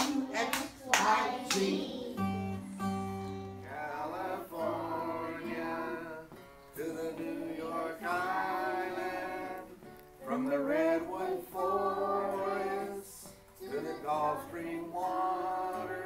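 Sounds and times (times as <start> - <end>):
person singing: 0.0 - 3.0, 3.6 - 16.0
acoustic guitar strumming: 0.0 - 16.0.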